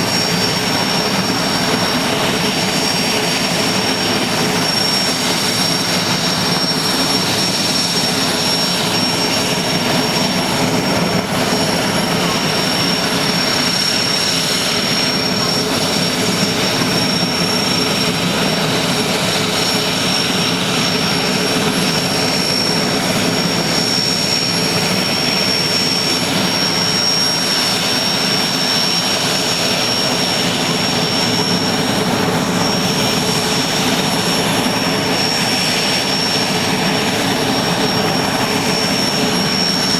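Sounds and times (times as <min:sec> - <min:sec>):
helicopter engines and rotor: 0:00.0 - 0:39.9
high-pitched turbine whine: 0:00.0 - 0:39.9.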